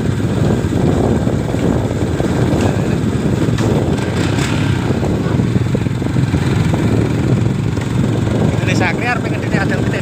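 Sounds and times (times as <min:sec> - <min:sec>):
motorcycle engine: 0:00.0 - 0:10.0
road noise: 0:00.0 - 0:10.0.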